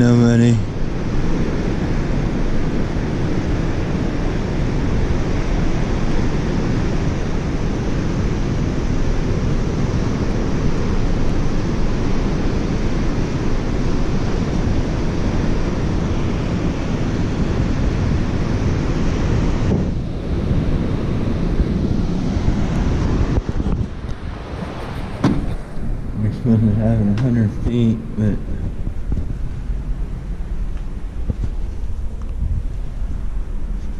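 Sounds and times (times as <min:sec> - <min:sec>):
low outdoor rushing noise: 0:00.0 - 0:33.9.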